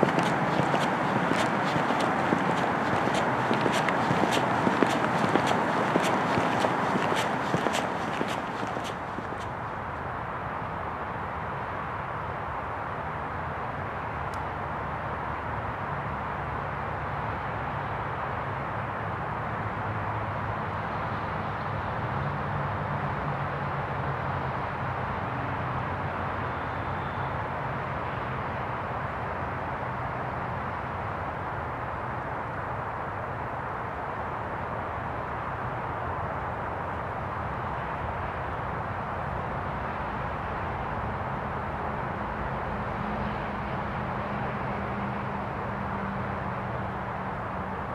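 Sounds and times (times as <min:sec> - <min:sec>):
distant road traffic: 0:00.0 - 0:47.9.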